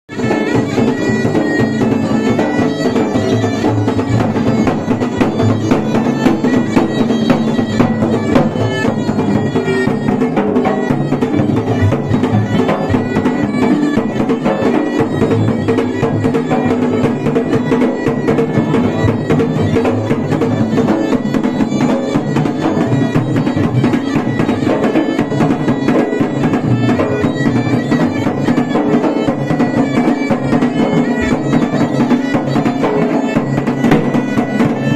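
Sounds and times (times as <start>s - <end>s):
drums beating fast: 0.1s - 34.9s.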